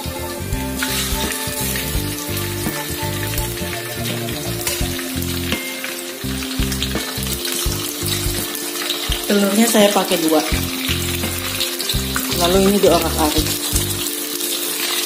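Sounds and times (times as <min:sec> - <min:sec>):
background music with held notes: 0:00.0 - 0:15.0
eggs sizzling in hot oil: 0:00.0 - 0:15.0.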